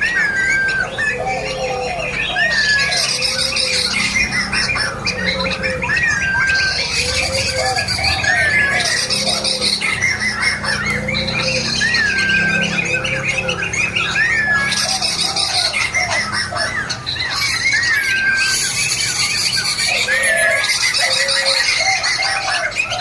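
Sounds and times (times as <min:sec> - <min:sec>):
laughingthrush whistled song: 0:00.0 - 0:23.0.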